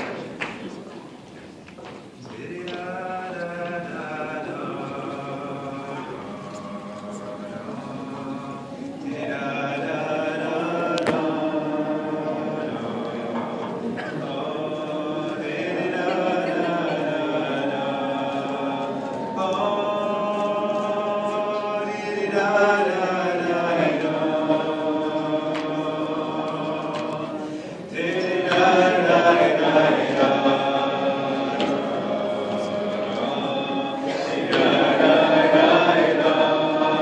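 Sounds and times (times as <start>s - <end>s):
group singing wordless melody: 2.2s - 37.0s.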